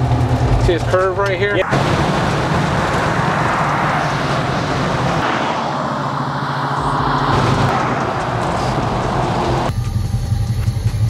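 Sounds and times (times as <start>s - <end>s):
pickup truck engine: 0.0s - 11.0s
tyre and road noise: 0.0s - 11.0s.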